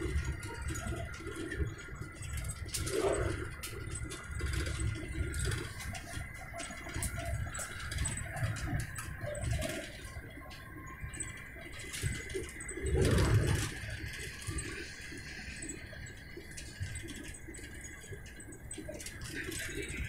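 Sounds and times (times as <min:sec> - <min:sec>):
light clicks and rattles: 0:00.0 - 0:20.0
train interior rumble: 0:00.0 - 0:20.0.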